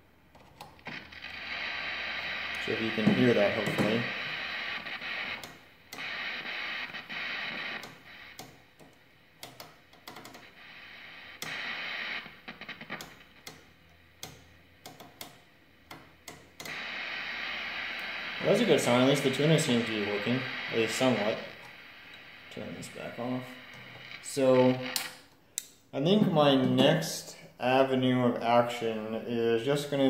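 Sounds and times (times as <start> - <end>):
television static hiss: 0.0 - 30.0
clicks and crackles: 0.3 - 25.8.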